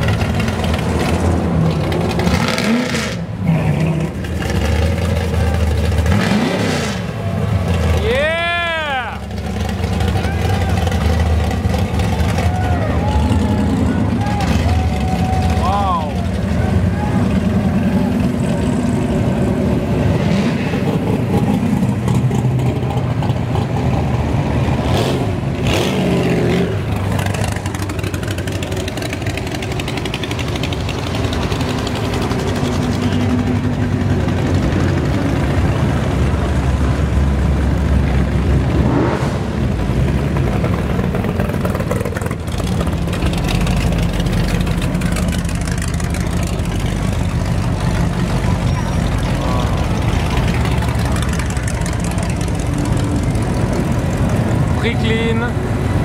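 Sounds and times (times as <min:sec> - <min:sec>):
car engine revving: 0:00.0 - 0:08.1, 0:09.2 - 0:56.0
car engines rumbling past: 0:00.0 - 0:56.0.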